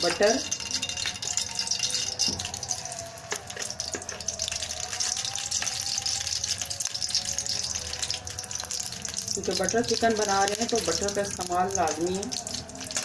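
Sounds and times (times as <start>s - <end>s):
butter sizzling in hot oil: 0.0s - 13.0s.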